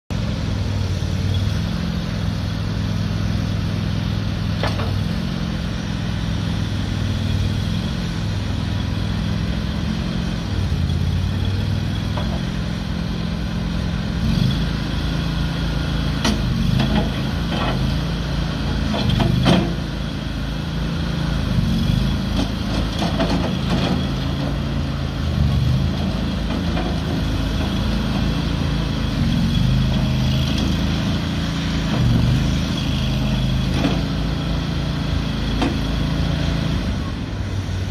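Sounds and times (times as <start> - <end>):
loader engine running: 0.1 - 37.9.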